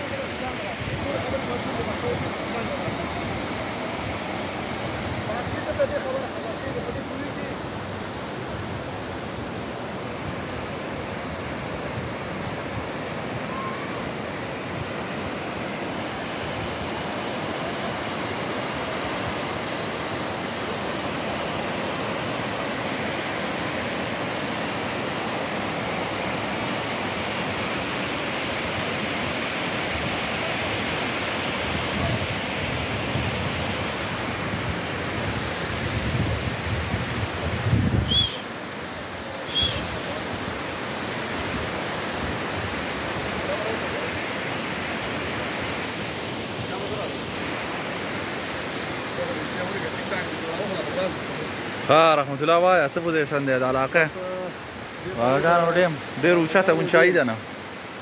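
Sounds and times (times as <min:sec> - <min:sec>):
water rushing down a weir: 0:00.0 - 0:58.0.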